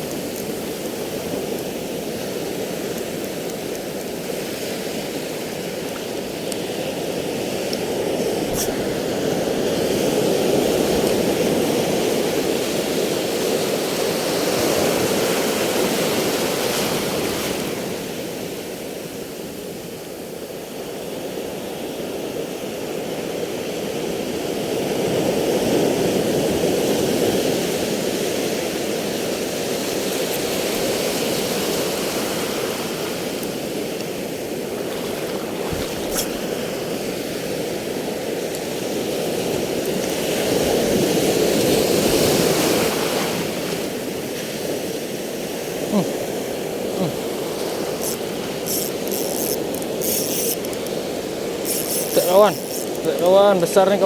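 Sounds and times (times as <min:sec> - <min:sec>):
sea surf washing in: 0:00.0 - 0:19.9, 0:20.6 - 0:54.0.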